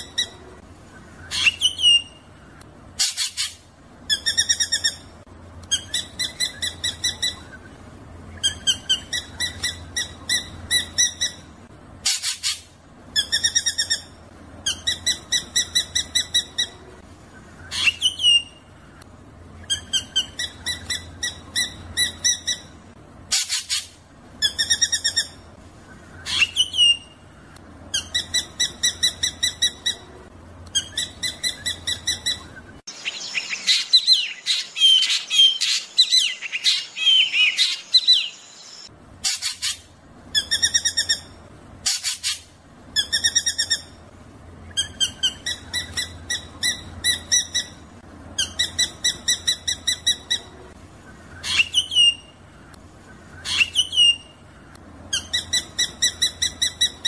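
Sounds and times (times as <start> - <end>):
bird song rolling bursts: 0.0 - 57.0
bird twittering and chatter: 0.0 - 57.0.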